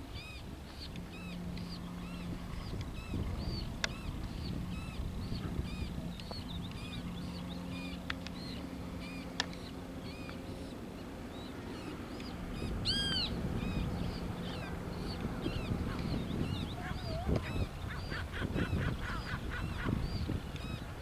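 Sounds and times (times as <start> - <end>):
low steady hum: 0.0 - 21.0
birds chirping: 0.1 - 21.0.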